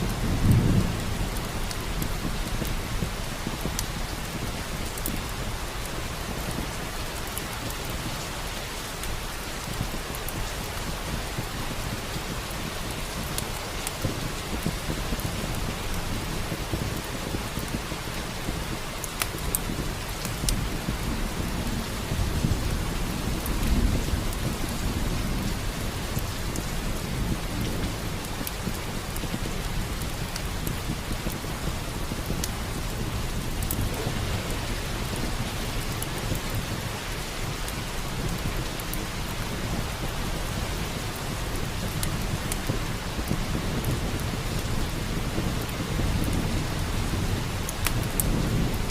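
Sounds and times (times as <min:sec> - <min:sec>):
low thunder rumbling: 0:00.0 - 0:08.2, 0:09.6 - 0:48.9
heavy rain: 0:00.0 - 0:48.9
log fire crackling: 0:00.0 - 0:48.9.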